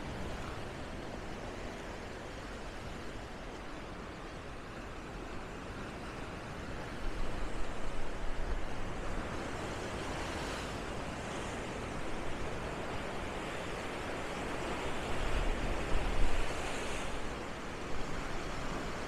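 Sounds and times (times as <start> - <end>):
surf washing onto shore: 0.0 - 19.0.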